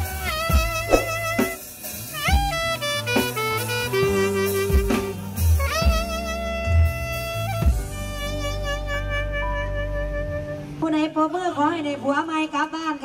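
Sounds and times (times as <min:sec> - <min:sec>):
bass and drum kit: 0:00.0 - 0:10.6
saxophone melody: 0:00.0 - 0:10.8.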